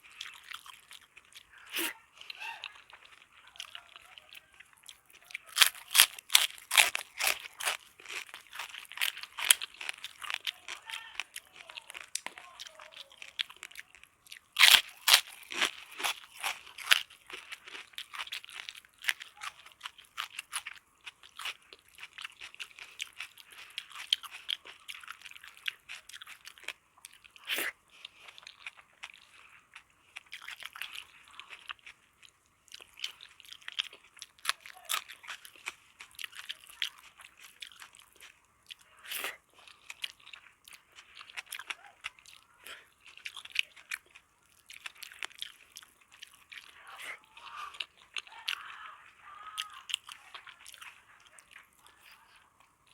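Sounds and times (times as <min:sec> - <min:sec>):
crisp crunching and chewing: 0:00.0 - 0:52.9.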